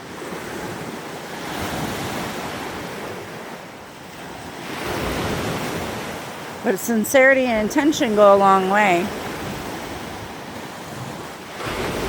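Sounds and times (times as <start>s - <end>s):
waves washing in: 0.0s - 12.0s.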